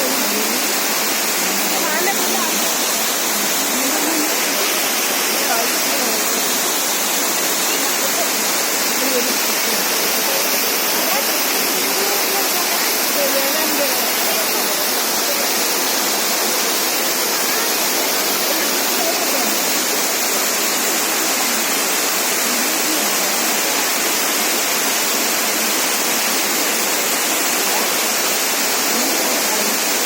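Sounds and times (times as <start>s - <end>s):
waterfall rushing and splashing: 0.0s - 30.0s.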